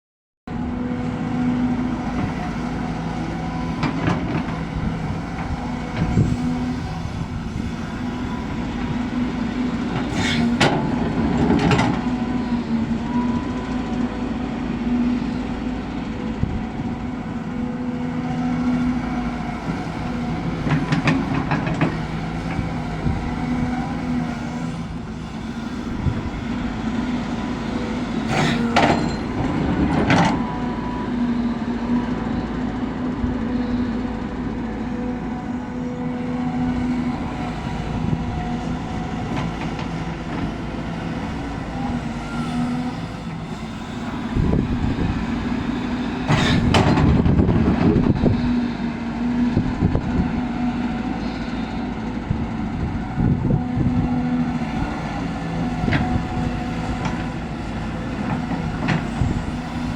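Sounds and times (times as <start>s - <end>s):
excavator diesel engine running: 0.5s - 59.9s.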